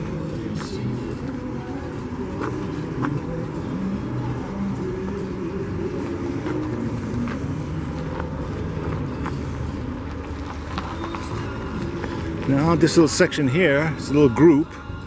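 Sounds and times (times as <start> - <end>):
car engines rumbling: 0.0 - 15.0.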